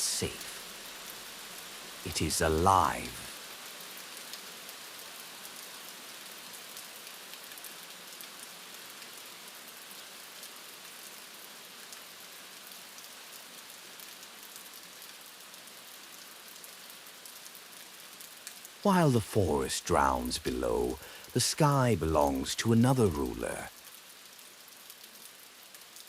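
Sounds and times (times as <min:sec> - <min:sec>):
rain pattering on surfaces: 0:00.0 - 0:26.0.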